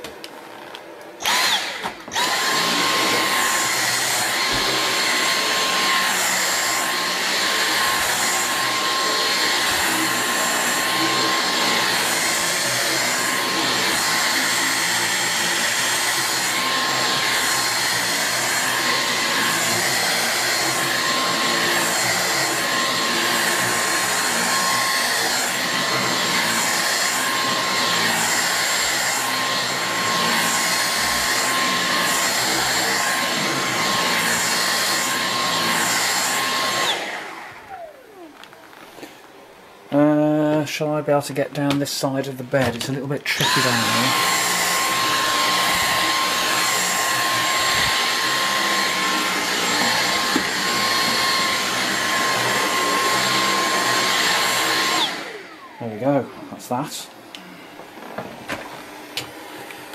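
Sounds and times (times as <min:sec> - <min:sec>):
vacuum cleaner motor whine: 0:00.0 - 0:40.6, 0:42.6 - 0:59.9.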